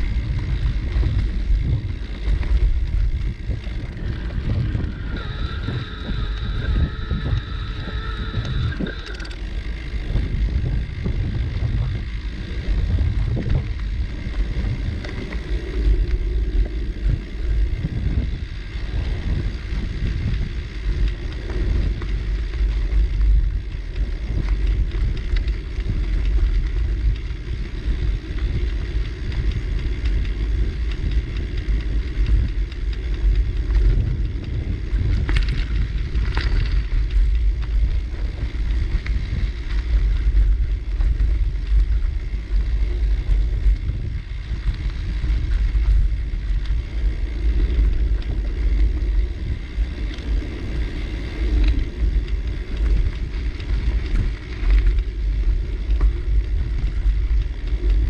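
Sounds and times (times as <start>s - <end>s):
bicycle tyres rolling: 0.0s - 58.0s
wind on microphone: 0.0s - 58.0s.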